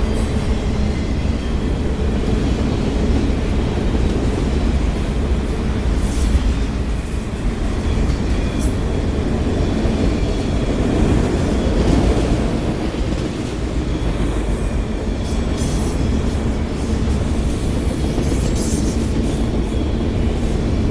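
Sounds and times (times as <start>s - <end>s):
freight train rolling past: 0.0s - 20.9s.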